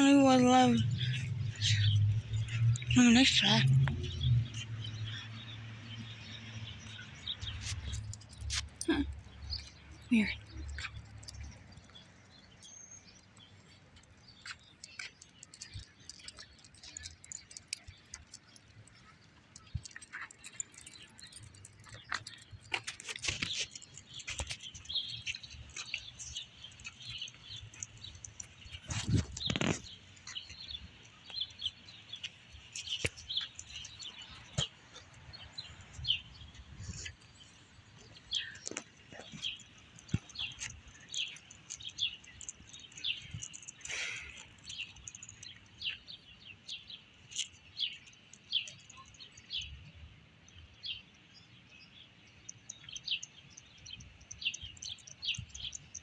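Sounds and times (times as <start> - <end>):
birds chirping: 0.0 - 56.0
faint outdoor background noise: 0.0 - 56.0.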